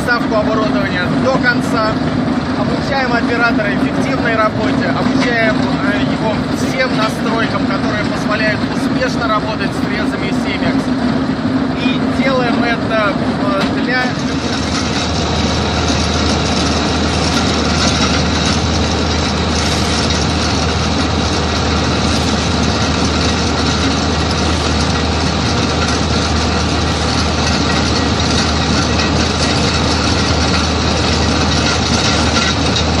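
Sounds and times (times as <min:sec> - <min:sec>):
loader engine under load: 0:00.0 - 0:33.0
milling drum cutting asphalt: 0:00.0 - 0:33.0.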